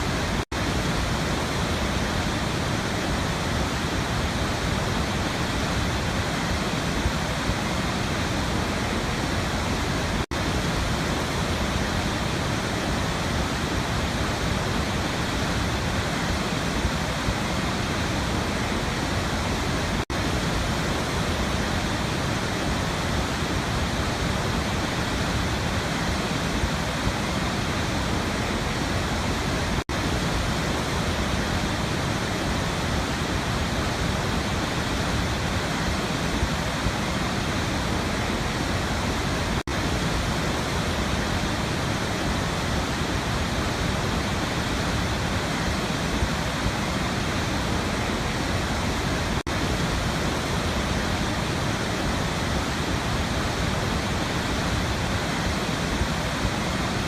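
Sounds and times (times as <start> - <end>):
waterfall splashing: 0.0 - 57.0.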